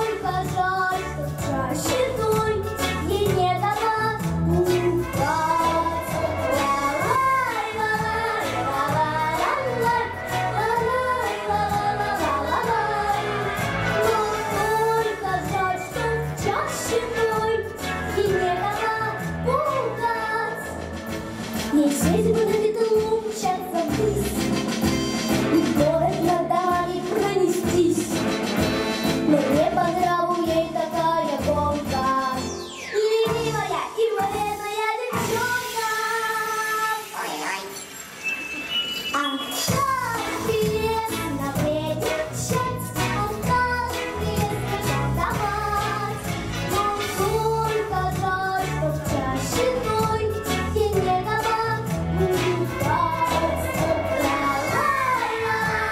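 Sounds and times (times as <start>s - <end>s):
girl singing into a microphone: 0.0s - 13.2s, 14.0s - 20.8s, 21.7s - 24.4s, 25.5s - 28.1s, 29.3s - 37.7s, 39.6s - 55.9s
instrumental backing with bass line: 0.0s - 33.8s, 39.7s - 55.9s.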